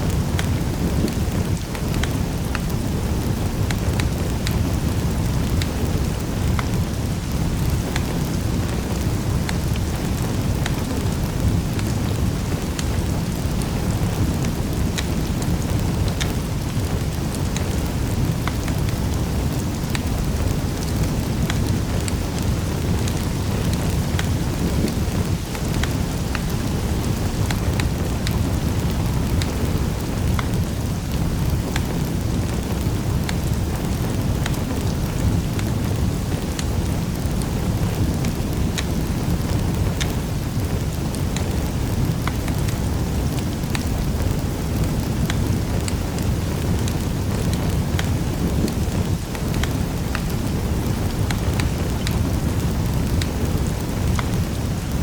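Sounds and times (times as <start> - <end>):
sharp pops and snaps: 0.0 - 55.0
wood fire crackling in fireplace: 0.0 - 55.0.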